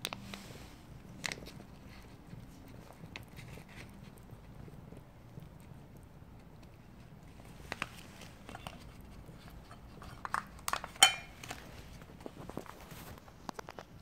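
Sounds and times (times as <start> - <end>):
cat chewing food: 0.0 - 14.0.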